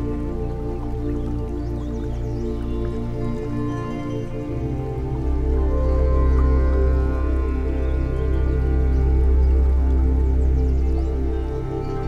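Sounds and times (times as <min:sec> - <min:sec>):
soft new-age music: 0:00.0 - 0:12.0.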